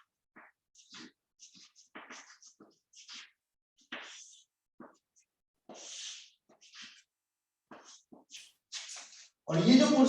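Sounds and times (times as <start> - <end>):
chalk scraping on blackboard: 0.4 - 7.1, 7.7 - 9.4.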